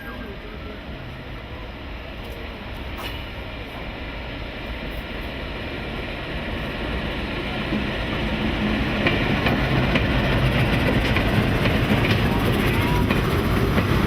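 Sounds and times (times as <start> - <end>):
train rumbling along the track: 0.0 - 14.0.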